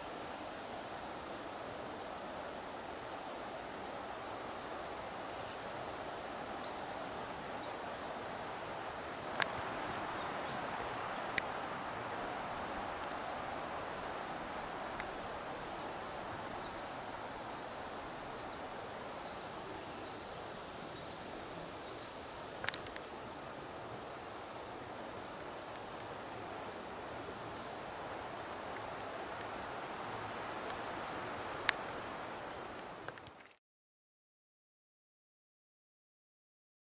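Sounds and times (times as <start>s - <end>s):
background hiss: 0.0s - 33.4s.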